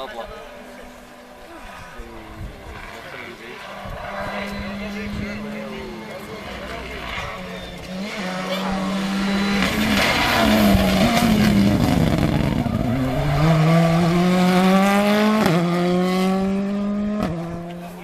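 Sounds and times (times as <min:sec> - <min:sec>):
rally car engine revving: 0:00.4 - 0:18.0.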